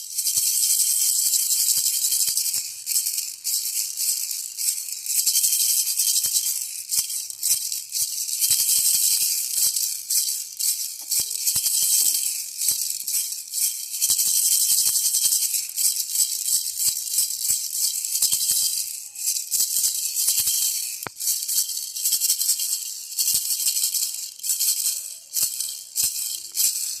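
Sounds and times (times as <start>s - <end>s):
baby rattle shaking: 0.0s - 27.0s.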